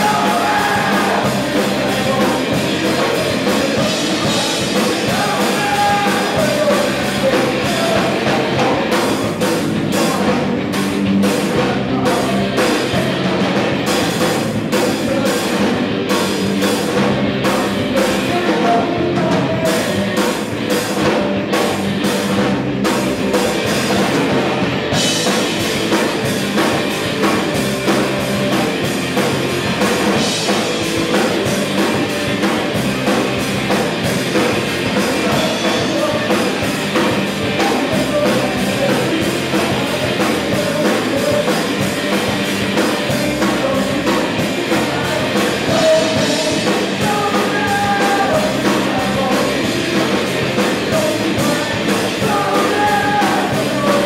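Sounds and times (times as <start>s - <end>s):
rock band playing live: 0.0s - 54.0s.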